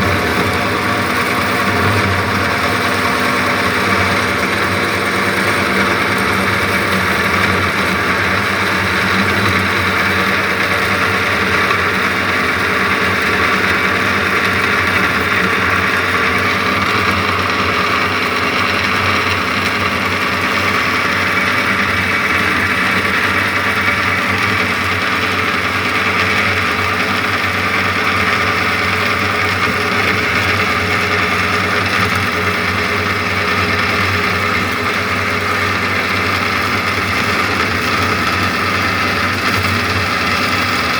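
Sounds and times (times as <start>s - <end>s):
bandsaw running: 0.0s - 40.9s.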